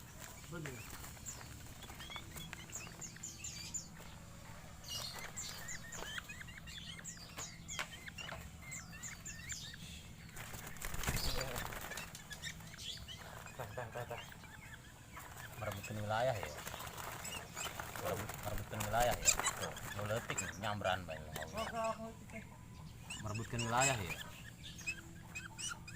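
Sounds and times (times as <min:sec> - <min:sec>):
birds chirping rapidly: 0:00.0 - 0:25.9.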